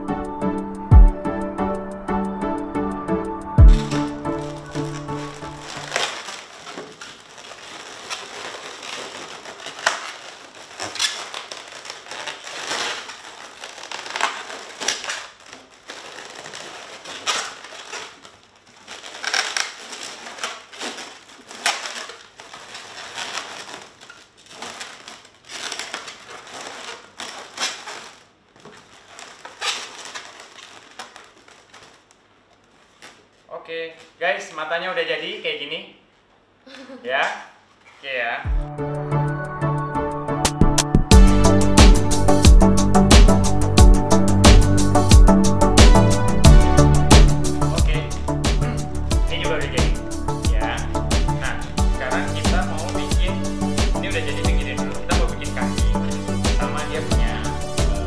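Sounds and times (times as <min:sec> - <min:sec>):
balloons squeaking and rubbing: 0:03.6 - 0:35.4, 0:40.9 - 0:58.0.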